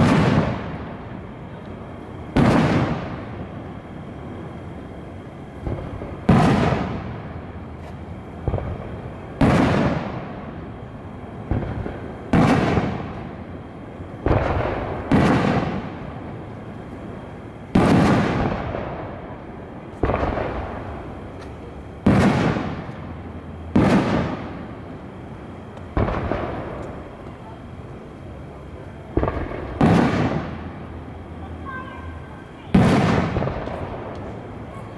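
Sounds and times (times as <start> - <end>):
firework shells bursting with echo: 0.0 - 34.9.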